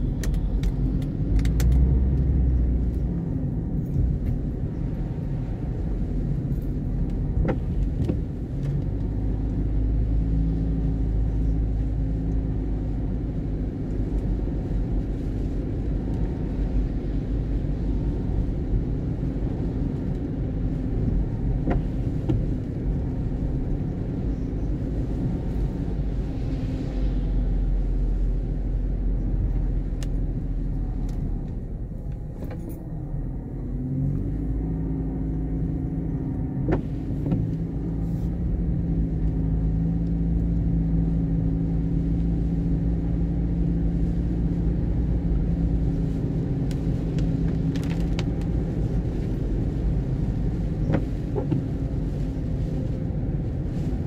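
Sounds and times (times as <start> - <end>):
car cabin engine and tyre rumble: 0.0 - 54.0.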